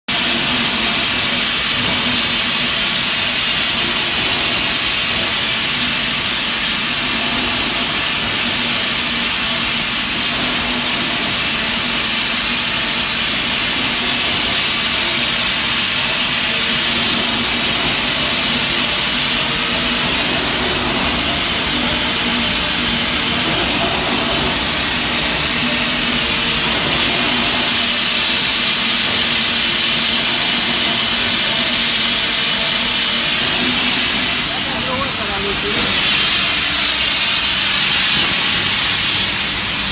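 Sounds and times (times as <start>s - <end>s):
loud steady hiss: 0.1s - 39.9s
machine hum: 0.3s - 37.4s.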